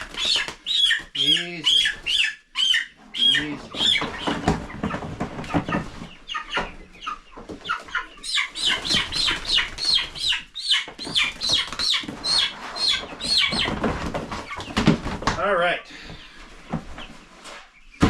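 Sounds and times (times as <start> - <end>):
young chickens peeping: 0.0 - 18.0.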